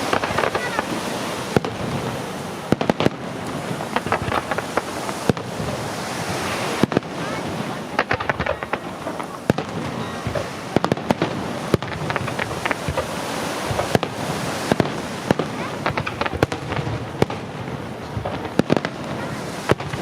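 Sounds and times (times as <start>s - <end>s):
continuous rumbling: 0.0s - 20.0s
fireworks bangs and crackles: 0.0s - 20.0s.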